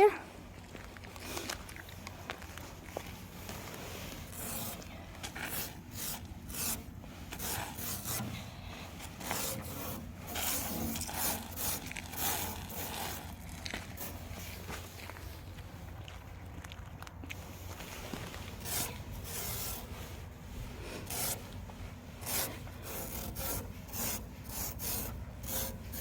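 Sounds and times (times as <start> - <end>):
fingertip scraping frost: 3.2 - 15.5, 17.4 - 26.0.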